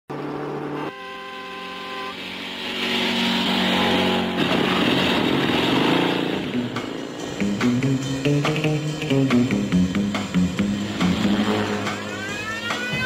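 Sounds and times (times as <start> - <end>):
motorcycle engines pulling away: 1.5 - 13.0.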